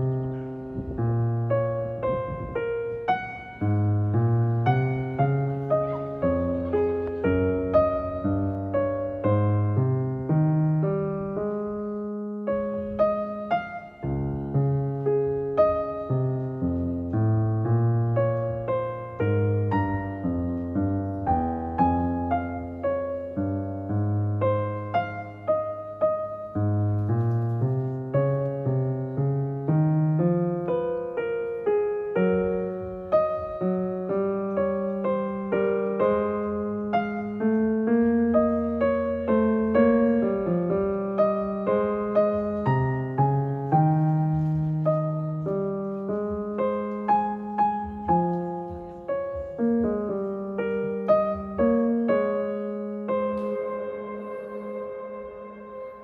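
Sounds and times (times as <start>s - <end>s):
slow piano music: 0.0s - 56.0s.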